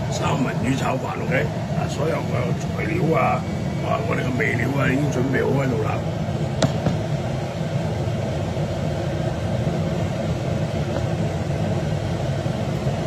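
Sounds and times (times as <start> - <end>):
stove burner rumbling: 0.0 - 13.0.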